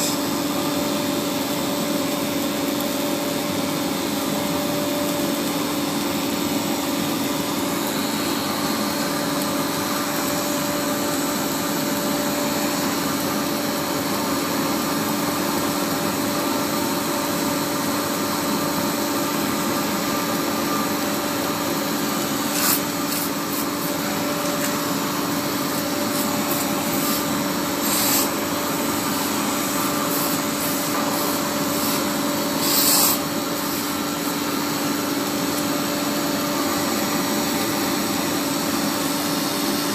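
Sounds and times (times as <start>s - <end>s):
welding machine running: 0.0s - 39.9s.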